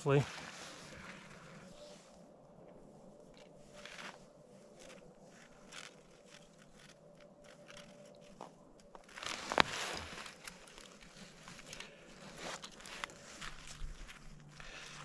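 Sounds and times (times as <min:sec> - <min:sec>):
crunching in snow: 0:00.0 - 0:15.0
small ticks of wire being handled: 0:02.7 - 0:15.0.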